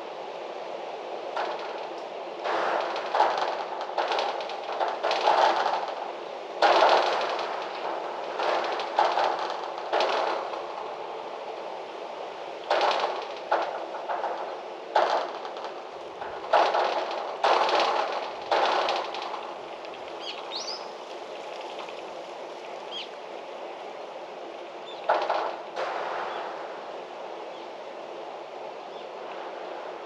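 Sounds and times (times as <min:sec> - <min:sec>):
gusty wind blasts: 0:00.0 - 0:30.0.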